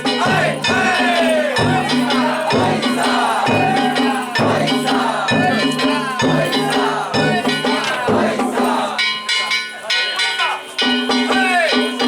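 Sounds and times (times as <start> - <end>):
drum beating: 0.0 - 12.0.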